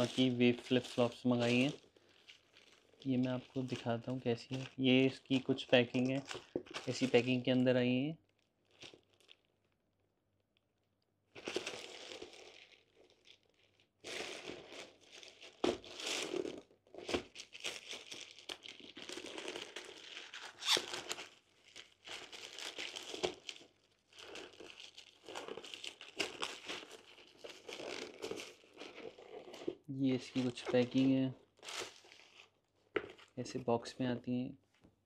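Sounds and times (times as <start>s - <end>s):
plastic mailer bag crinkling: 0.0s - 7.7s, 8.6s - 9.5s, 11.4s - 33.9s.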